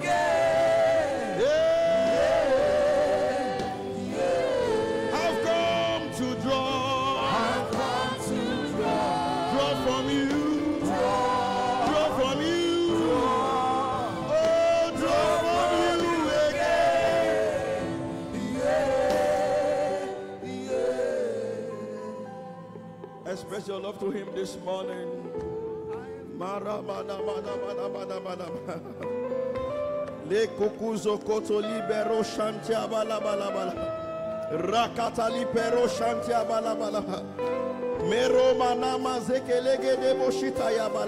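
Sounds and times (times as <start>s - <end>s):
gospel singing by several voices: 0.0s - 41.0s
musical accompaniment: 0.0s - 41.0s.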